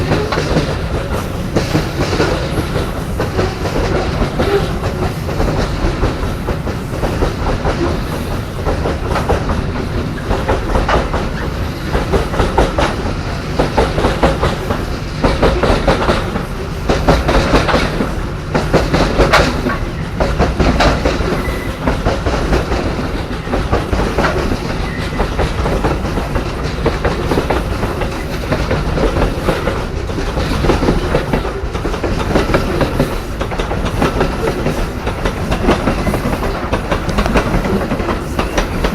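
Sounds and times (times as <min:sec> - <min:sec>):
train wheels clacking over rail joints: 0:00.0 - 0:38.9.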